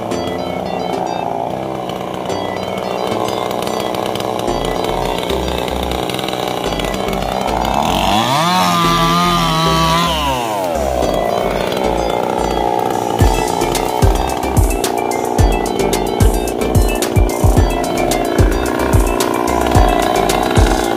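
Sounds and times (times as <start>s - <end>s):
chainsaw revving: 0.0s - 20.9s
music with pulsing bass beat: 0.0s - 20.9s.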